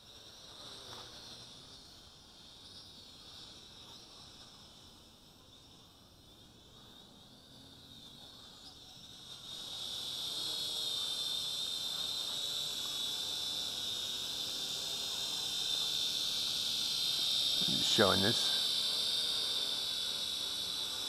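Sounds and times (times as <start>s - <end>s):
toy drone motors whining: 0.0s - 21.0s.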